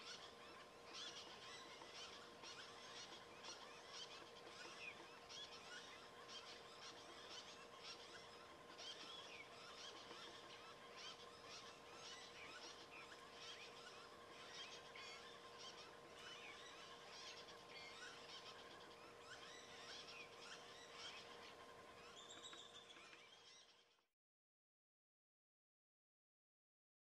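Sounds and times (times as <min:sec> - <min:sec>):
birds chirping: 0:00.0 - 0:24.1
faint steady hum: 0:00.0 - 0:24.1.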